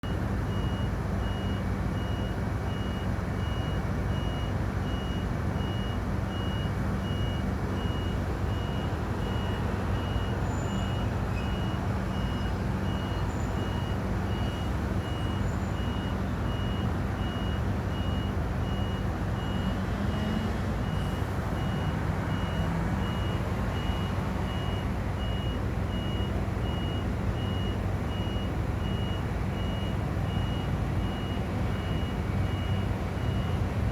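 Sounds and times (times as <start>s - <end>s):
crane warning beeper: 0.0s - 33.6s.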